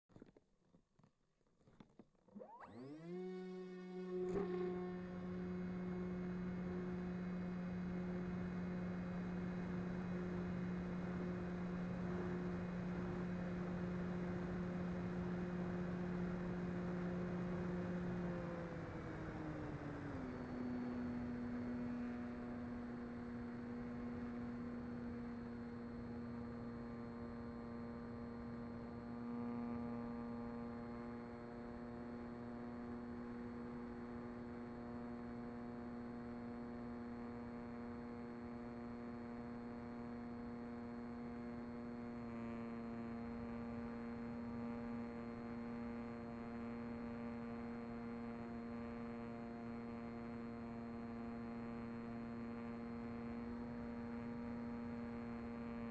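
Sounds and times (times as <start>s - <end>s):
electric propeller droning: 2.3s - 55.9s.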